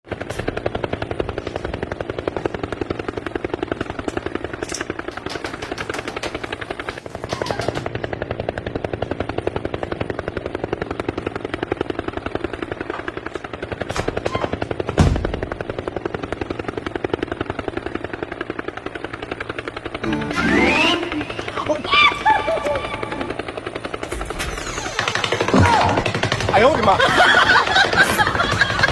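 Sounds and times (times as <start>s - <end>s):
helicopter rotor chopping: 0.1s - 28.9s.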